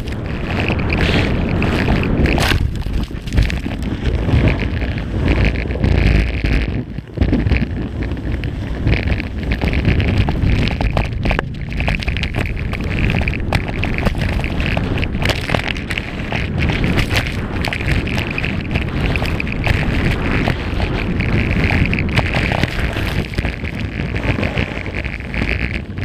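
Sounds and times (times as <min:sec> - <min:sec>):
skis scraping over snow: 0:00.0 - 0:26.0
wind buffeting microphone: 0:00.0 - 0:26.0.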